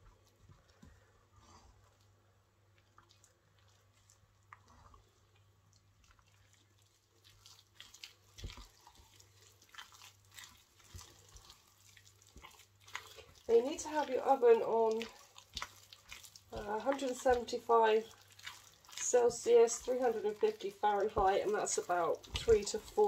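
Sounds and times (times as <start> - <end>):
spoon stirring thick batter: 0.0 - 23.0.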